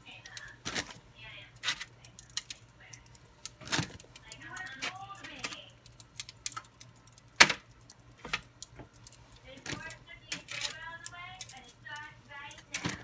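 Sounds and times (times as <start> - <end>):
aluminium foil crinkling: 0.0 - 13.0
jerky strips clicking: 0.0 - 13.0.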